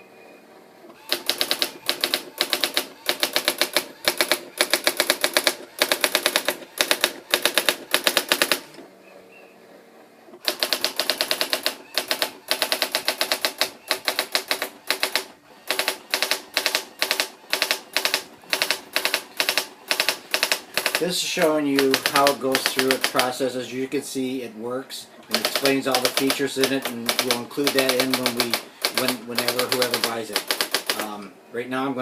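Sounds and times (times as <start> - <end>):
typewriter print head rattling: 1.0 - 8.8, 10.4 - 23.6, 25.3 - 31.3.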